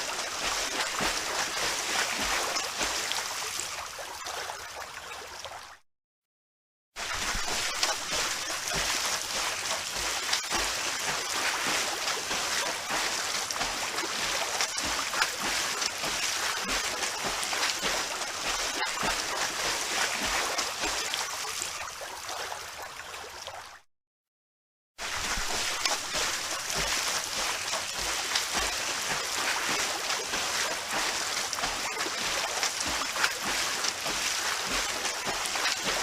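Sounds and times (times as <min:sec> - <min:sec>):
water splashing in a pool: 0:00.0 - 0:05.8, 0:07.0 - 0:23.9, 0:25.0 - 0:36.0.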